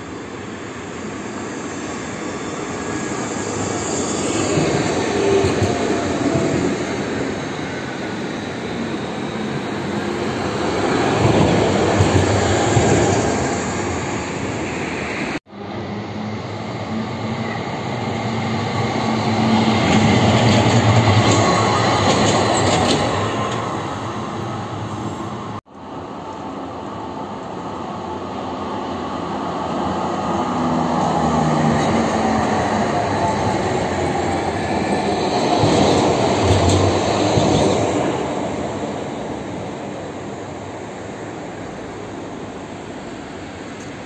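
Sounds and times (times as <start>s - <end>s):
tram wheels rumbling on rails: 0.0s - 44.0s.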